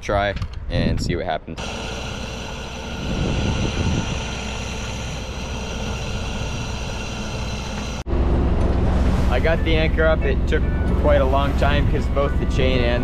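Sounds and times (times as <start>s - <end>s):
boat engine idling: 1.6s - 13.0s.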